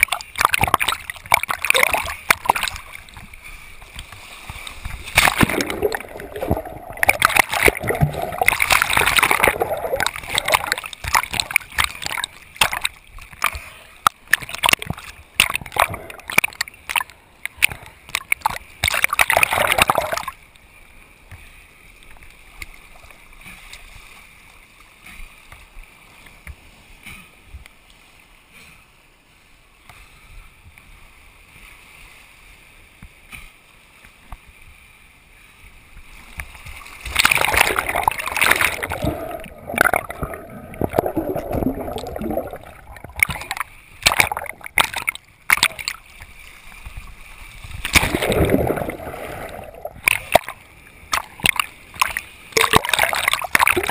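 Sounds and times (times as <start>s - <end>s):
muffled water splashing and sloshing: 0.0s - 53.9s.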